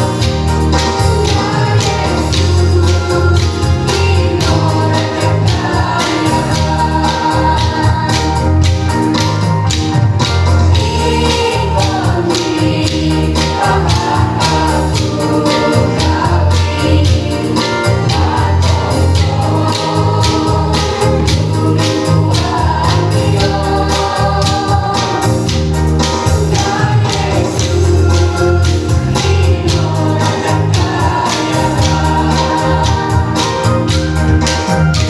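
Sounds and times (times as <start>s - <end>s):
voices singing: 0.0s - 9.8s, 10.4s - 35.0s
band with heavy bass: 0.0s - 35.0s.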